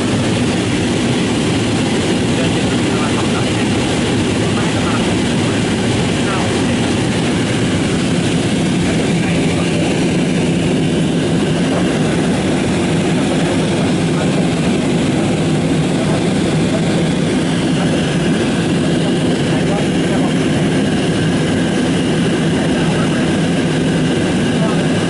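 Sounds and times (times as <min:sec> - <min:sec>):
jet engine cabin drone: 0:00.0 - 0:25.0.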